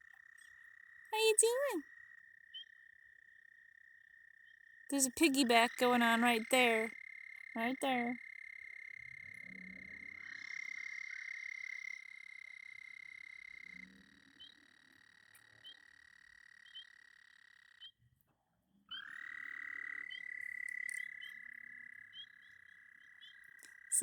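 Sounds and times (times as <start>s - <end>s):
frogs trilling: 0.0s - 17.9s, 18.9s - 24.0s.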